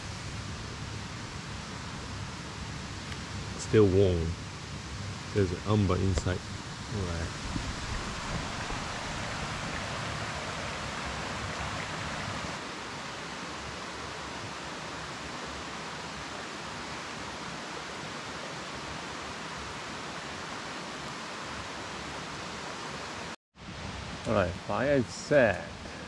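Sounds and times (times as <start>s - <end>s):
rocky mountain stream rushing: 3.0s - 26.0s.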